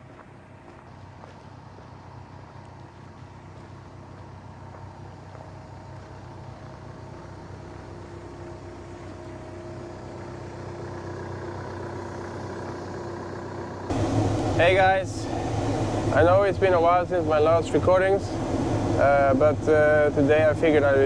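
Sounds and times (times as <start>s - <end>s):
machine engine running: 3.6s - 21.0s.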